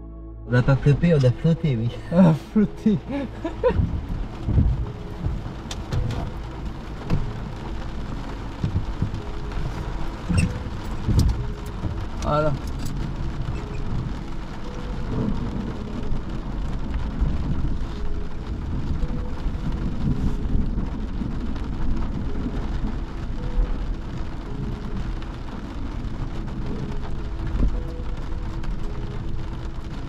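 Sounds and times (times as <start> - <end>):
steady low rumble: 0.0 - 30.0
rain on car roof: 0.5 - 30.0.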